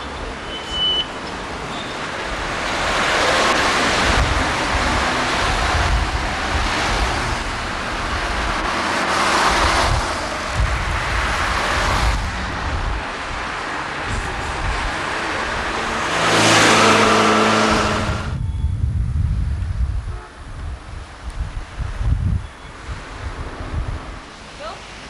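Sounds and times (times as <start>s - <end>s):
cars passing: 0.0s - 19.7s, 20.3s - 25.0s
wind on microphone: 2.1s - 24.5s.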